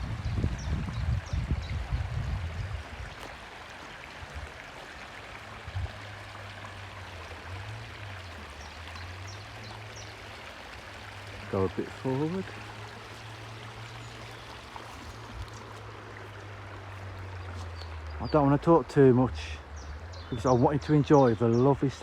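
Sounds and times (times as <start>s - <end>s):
stream rushing and gurgling: 0.0s - 22.0s.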